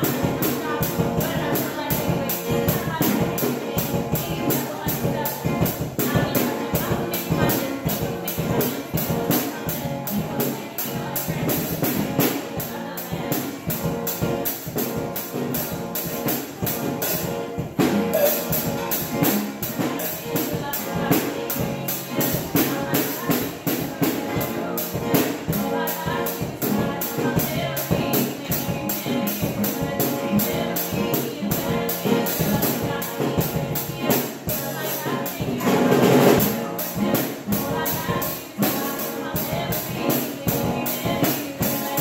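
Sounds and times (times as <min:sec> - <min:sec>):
acoustic guitars: 0:00.0 - 0:42.0
drum beat on snare and cymbal: 0:00.0 - 0:42.0
woman singing: 0:00.0 - 0:42.0.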